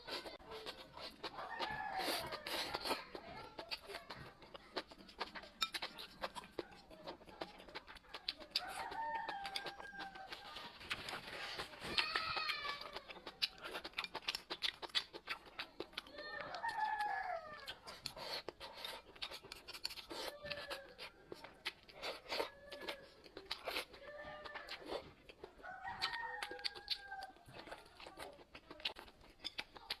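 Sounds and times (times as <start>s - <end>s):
chewing clicks and crunches: 0.0s - 30.0s.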